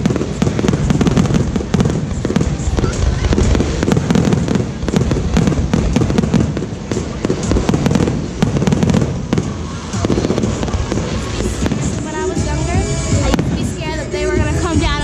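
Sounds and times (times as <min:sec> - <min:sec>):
firework bangs and crackles: 0:00.0 - 0:15.0.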